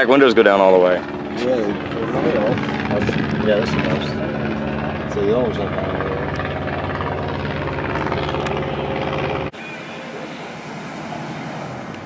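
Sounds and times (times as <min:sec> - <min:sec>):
low-pitched engine drone: 0:00.0 - 0:12.0.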